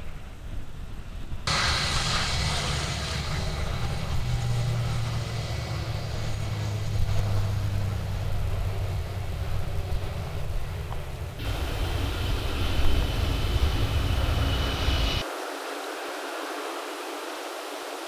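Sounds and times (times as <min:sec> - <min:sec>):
jet engines droning: 0:00.0 - 0:18.0
jet engine hiss: 0:01.5 - 0:18.0.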